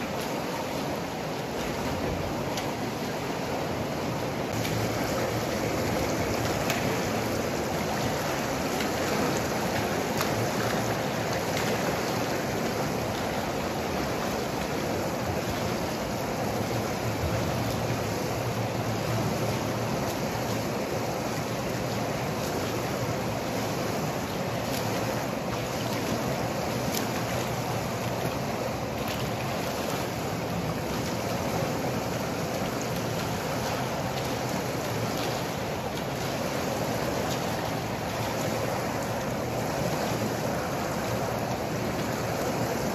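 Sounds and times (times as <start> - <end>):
swimmers splashing pool water: 0.0 - 42.9.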